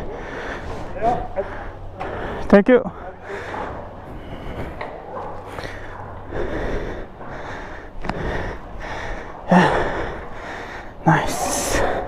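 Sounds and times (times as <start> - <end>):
person breathing: 0.0 - 12.0.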